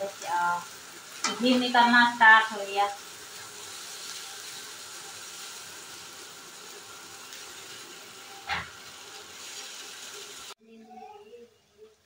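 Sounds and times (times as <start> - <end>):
butter sizzling in a pan: 0.0 - 10.6.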